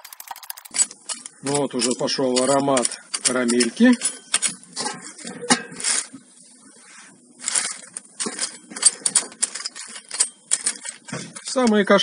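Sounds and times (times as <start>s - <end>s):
wooden sticks clattering in wire basket: 0.0s - 6.2s, 7.4s - 12.0s.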